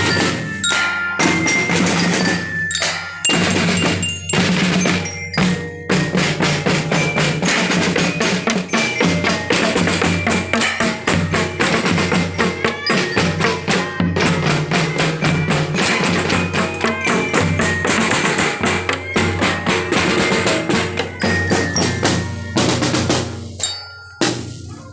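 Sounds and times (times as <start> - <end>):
ringing mallet tones: 0.0 - 24.9
snare and bass drums: 0.0 - 24.9.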